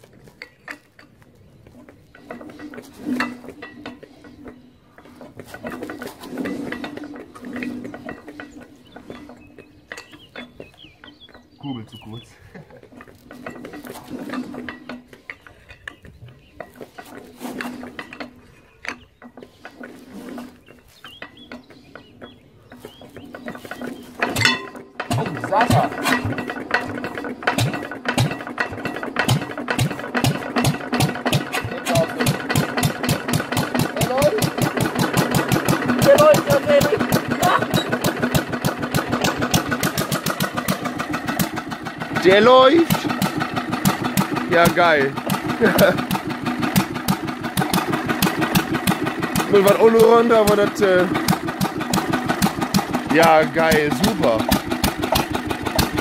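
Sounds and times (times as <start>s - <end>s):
diesel engine cranked by hand: 0.0s - 56.0s.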